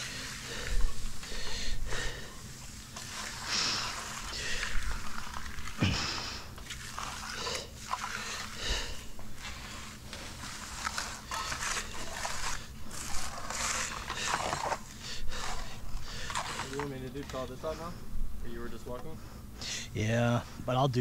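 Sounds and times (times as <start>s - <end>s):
broom scraping wet concrete: 0.0s - 17.8s.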